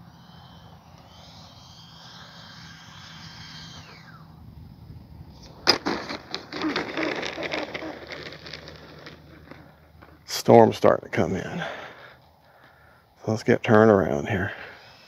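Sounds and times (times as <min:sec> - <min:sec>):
electric ducted fan whine: 0:00.0 - 0:15.0
wheels rolling on asphalt: 0:00.1 - 0:13.0.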